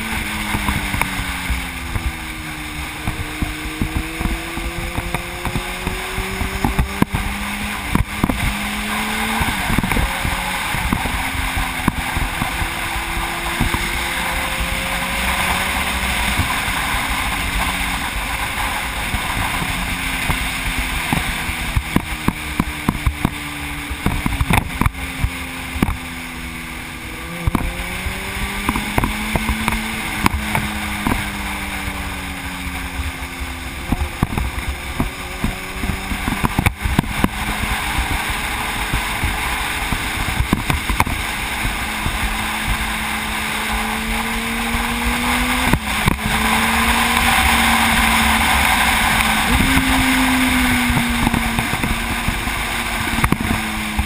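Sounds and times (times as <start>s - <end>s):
motorcycle engine revving: 0.0s - 54.0s
wind buffeting thumps: 0.0s - 54.0s
wind noise on microphone: 0.0s - 54.0s.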